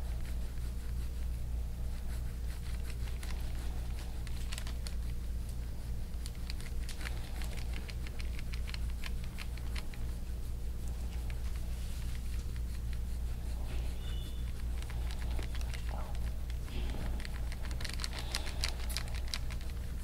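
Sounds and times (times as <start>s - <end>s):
hands massaging skin: 0.0s - 20.0s
steady low hum: 0.0s - 20.0s.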